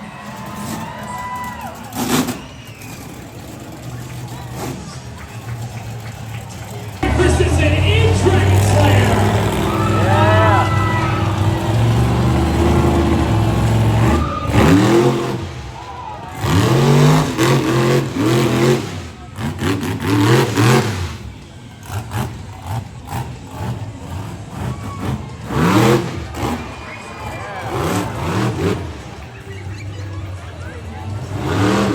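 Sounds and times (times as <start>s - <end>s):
truck engine revving: 1.8s - 31.9s.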